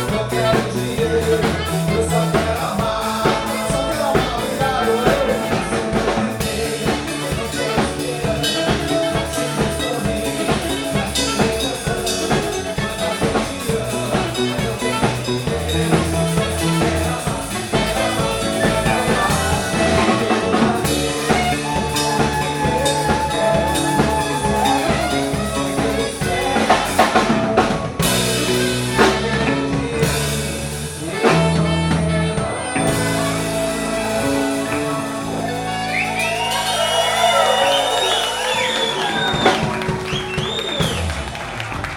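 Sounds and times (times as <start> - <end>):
bass line: 0.0 - 41.9
drum kit steady beat: 0.0 - 41.9.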